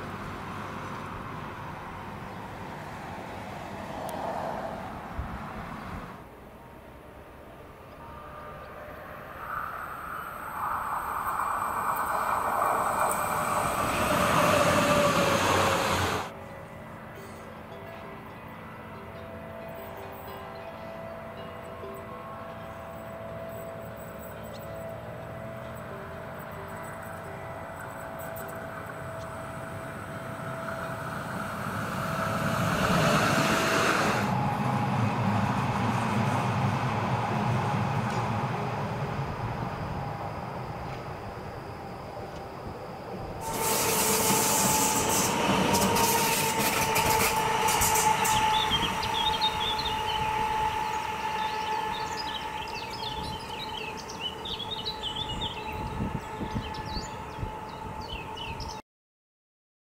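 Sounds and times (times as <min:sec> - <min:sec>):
train wheels on rails: 0:00.0 - 0:16.4, 0:21.2 - 0:57.8.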